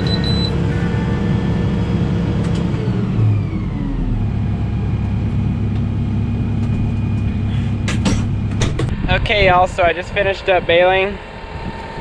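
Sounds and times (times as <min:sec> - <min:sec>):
machinery whine: 0:00.0 - 0:12.0
tractor engine running: 0:00.0 - 0:12.0.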